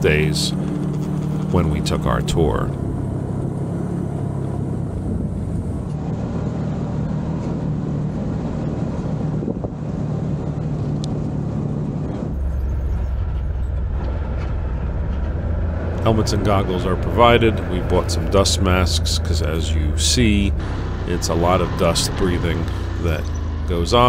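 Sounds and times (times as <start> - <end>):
off-road vehicle engine droning: 0.0 - 24.0.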